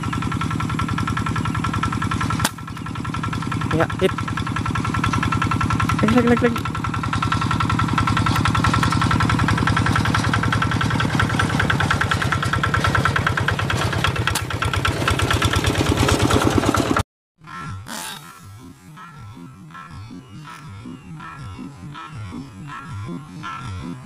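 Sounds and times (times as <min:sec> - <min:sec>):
small engine idling: 0:00.0 - 0:24.0.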